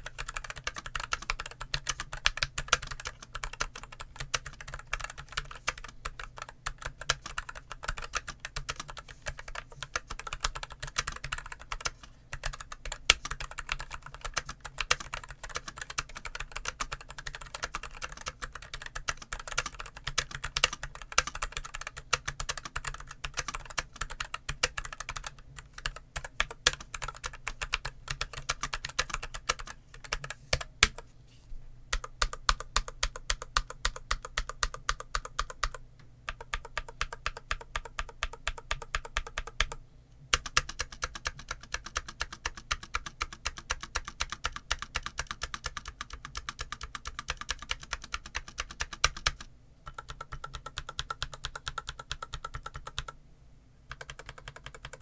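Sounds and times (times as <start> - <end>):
mechanical keyboard typing: 0.0 - 31.0, 31.9 - 53.2, 53.9 - 55.0.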